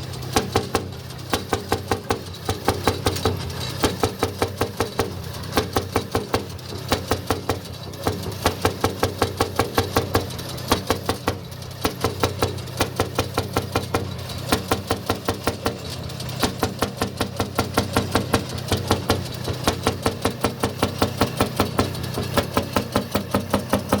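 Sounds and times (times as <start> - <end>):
hot-bulb engine banging: 0.0 - 24.0.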